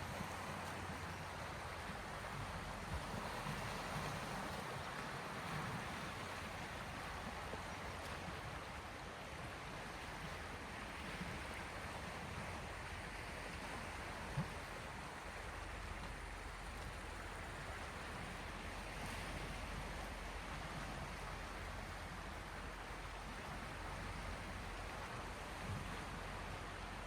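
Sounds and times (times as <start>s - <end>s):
waves lapping at shore: 0.0s - 27.0s.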